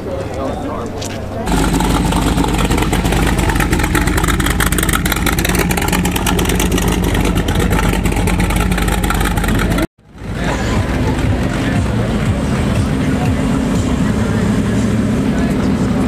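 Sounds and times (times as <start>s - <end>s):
supercharged car engine running: 1.5s - 16.0s.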